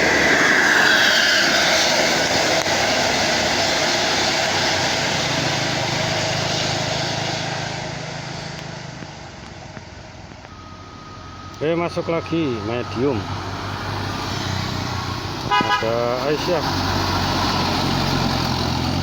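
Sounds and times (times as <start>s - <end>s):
bus passing: 0.0s - 19.0s.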